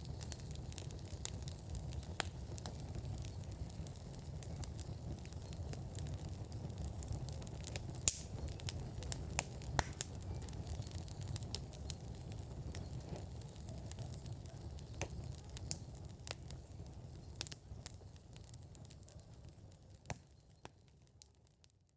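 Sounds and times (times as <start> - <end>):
fire popping: 0.0 - 21.8
wood fire crackling: 0.0 - 21.9.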